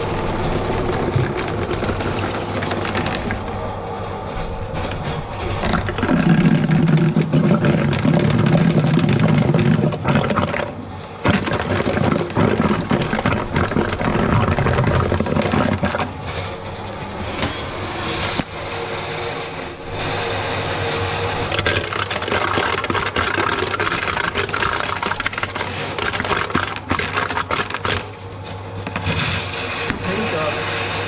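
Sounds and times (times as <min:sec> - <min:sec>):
drain cable rattling and scraping: 0:00.0 - 0:31.0
motor hum: 0:00.0 - 0:31.0.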